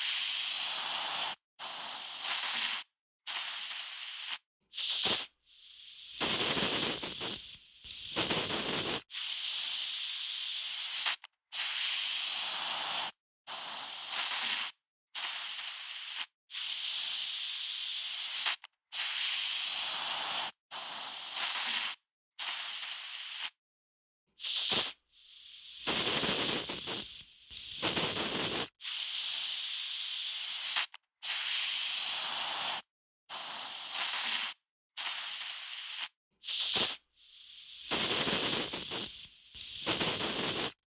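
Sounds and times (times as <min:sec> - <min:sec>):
aerosol spray can hissing: 0:00.0 - 0:23.6, 0:24.4 - 0:40.8.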